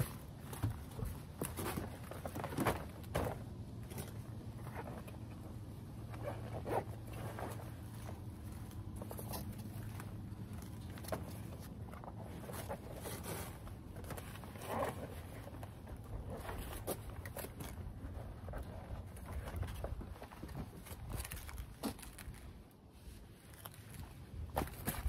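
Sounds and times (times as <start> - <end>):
rustling: 0.0 - 25.0.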